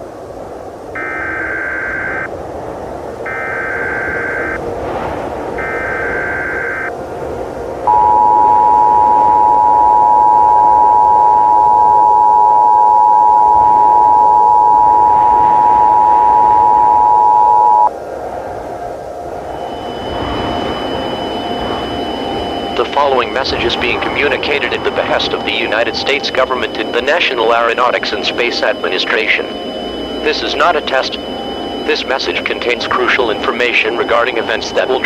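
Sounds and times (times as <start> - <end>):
static hiss: 0.0 - 10.4, 14.8 - 35.0
two-tone attention signal: 1.0 - 2.3, 3.3 - 4.6, 5.6 - 6.9, 7.8 - 17.9, 19.3 - 35.0
digital data tones: 3.3 - 4.6, 5.6 - 6.9, 7.9 - 17.9, 19.4 - 35.0.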